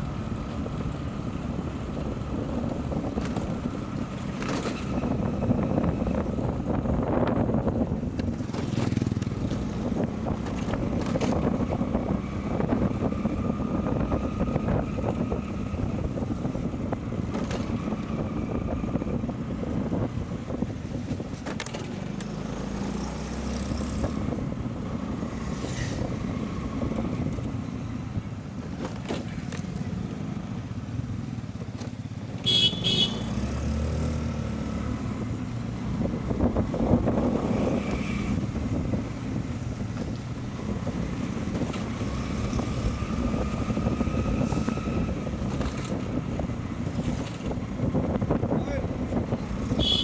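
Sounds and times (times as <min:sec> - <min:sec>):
motorcycle engine rumble: 0:00.0 - 0:50.0.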